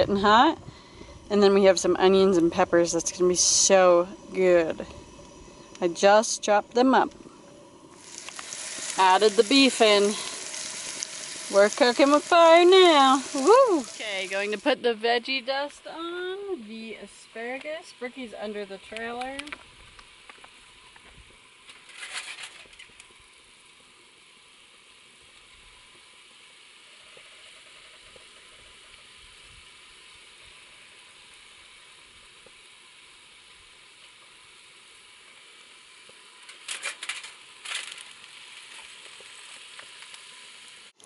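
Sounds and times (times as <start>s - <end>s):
meat and vegetables sizzling: 0.0s - 41.0s.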